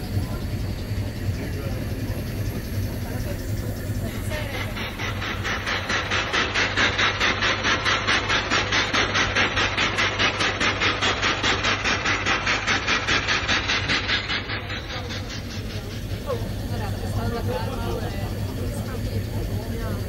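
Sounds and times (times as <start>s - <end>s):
steam engine hissing beat: 0.0s - 20.0s.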